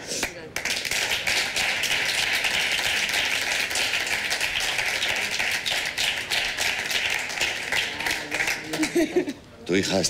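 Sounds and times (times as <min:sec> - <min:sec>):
people applauding: 0:00.0 - 0:09.2.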